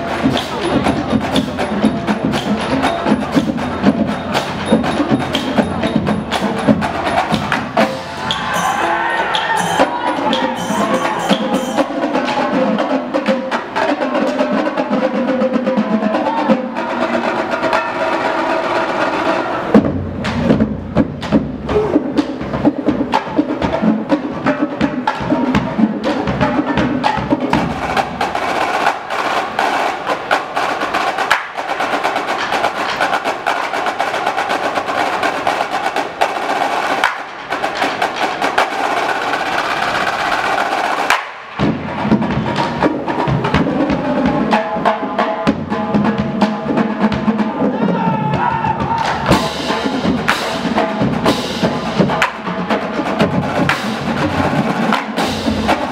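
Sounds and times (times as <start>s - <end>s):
drumline playing: 0.0s - 55.9s.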